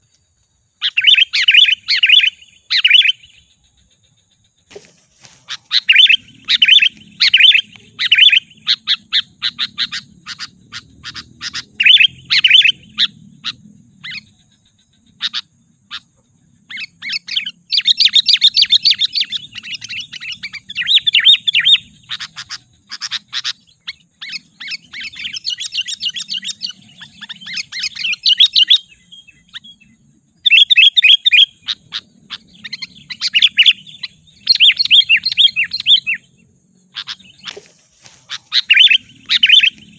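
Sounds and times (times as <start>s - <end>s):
bird chattering chirps: 0.8s - 39.9s.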